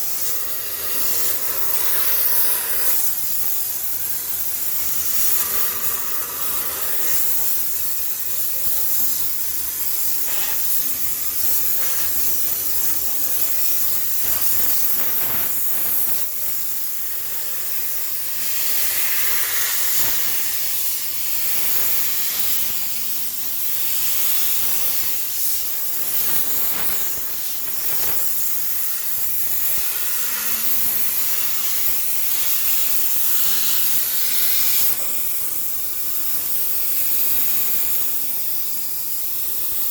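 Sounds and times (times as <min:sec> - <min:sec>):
steam cleaner hissing: 0:00.0 - 0:39.9.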